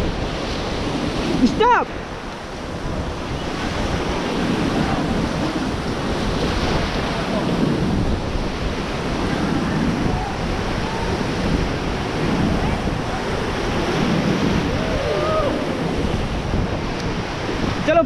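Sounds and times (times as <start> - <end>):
river water rushing: 0.0 - 18.0
wind buffeting microphone: 0.0 - 18.0.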